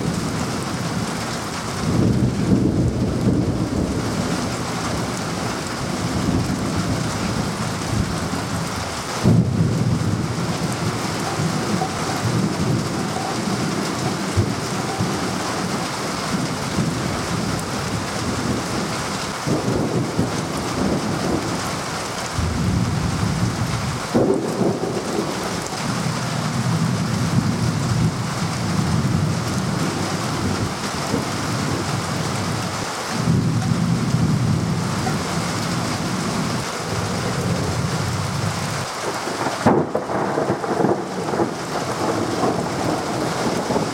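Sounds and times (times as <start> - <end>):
heavy rain: 0.0 - 43.9
thunder rumbling: 0.0 - 43.9.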